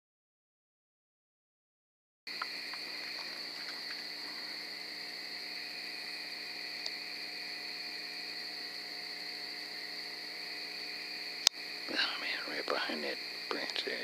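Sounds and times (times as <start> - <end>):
crickets trilling: 2.3 - 14.0.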